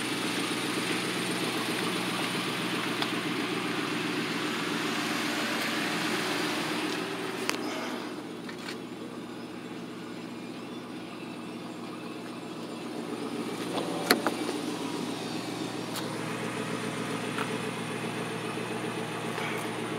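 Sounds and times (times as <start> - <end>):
car engine idling: 0.0 - 19.9.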